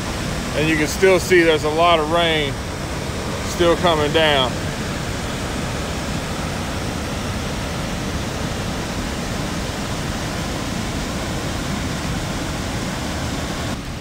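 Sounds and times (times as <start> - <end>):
river rushing over dam: 0.0 - 14.0.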